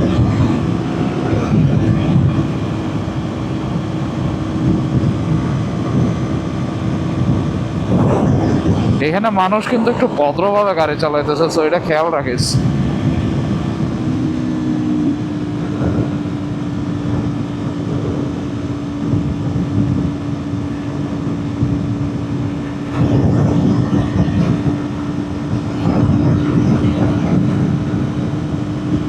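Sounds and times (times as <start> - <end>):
heavy wind rush: 0.0 - 29.0
motorcycle engine cruising: 0.0 - 29.0.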